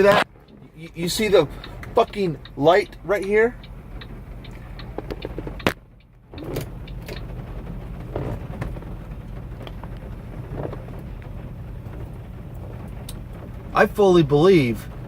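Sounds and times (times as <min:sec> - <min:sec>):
road noise: 0:00.0 - 0:15.0
truck engine drone: 0:00.0 - 0:15.0.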